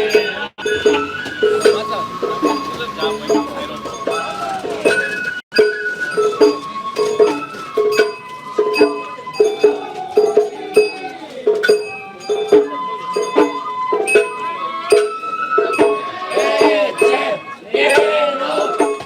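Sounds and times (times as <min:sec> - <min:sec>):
bamboo flute playing: 0:00.0 - 0:19.0
drum beats: 0:00.0 - 0:19.0.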